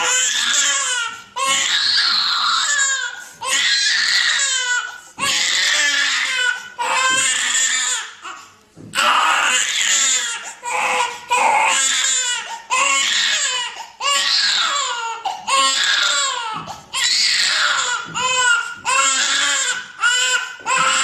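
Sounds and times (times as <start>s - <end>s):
infant crying: 0.0s - 21.0s.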